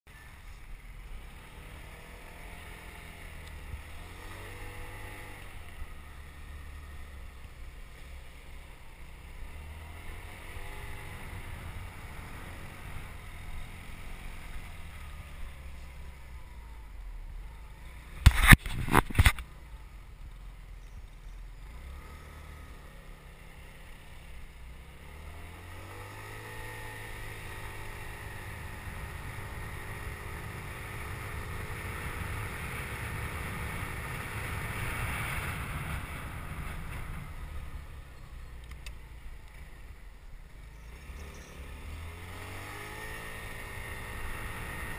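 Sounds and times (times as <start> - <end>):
motorbike engine revving: 1.0 - 16.8, 21.5 - 38.5, 40.4 - 44.9.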